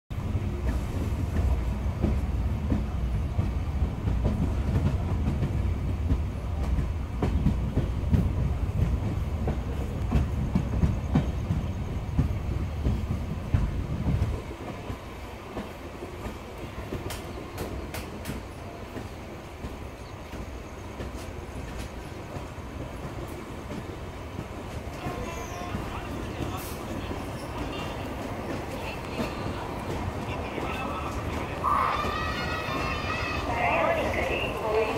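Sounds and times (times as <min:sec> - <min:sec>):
train rumbling on rails: 0:00.1 - 0:34.9.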